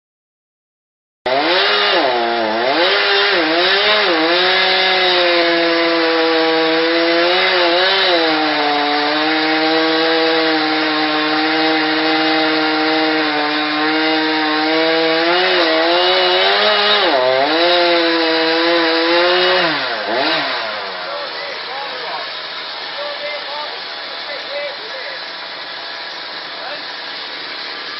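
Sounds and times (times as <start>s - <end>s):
chainsaw cutting tree trunk: 1.3s - 27.9s.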